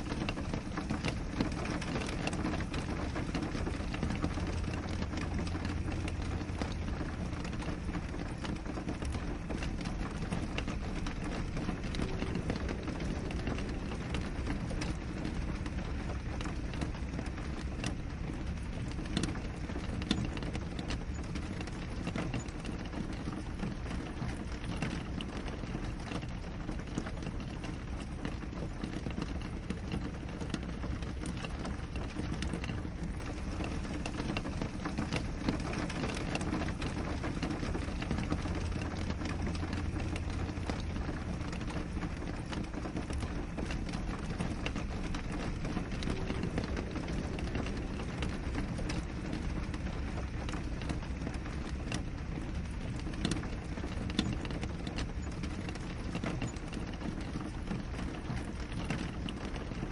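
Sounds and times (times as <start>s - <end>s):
rain on window glass: 0.0s - 59.9s.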